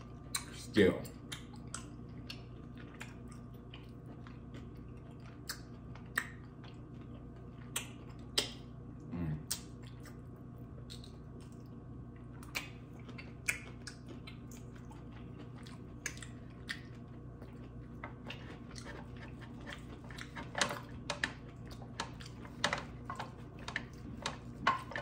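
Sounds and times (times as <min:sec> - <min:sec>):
person chewing: 0:00.0 - 0:08.8, 0:09.4 - 0:25.0.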